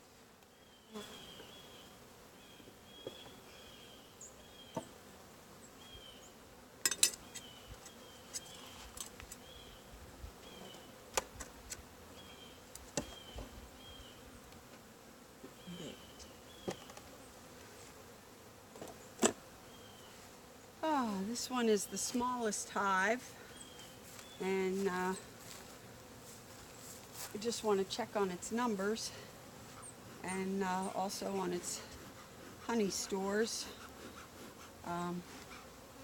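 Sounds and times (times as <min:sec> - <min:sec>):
bees buzzing: 0:00.0 - 0:36.0.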